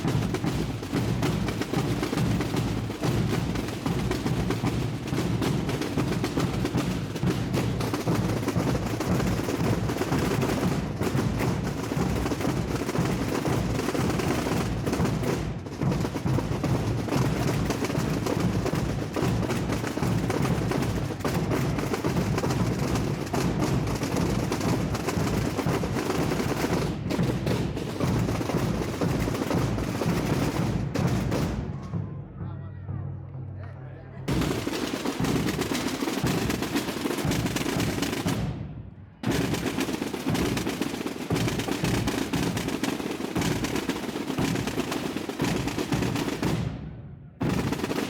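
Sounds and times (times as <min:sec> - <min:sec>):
massed drums rolling: 0:00.0 - 0:48.0.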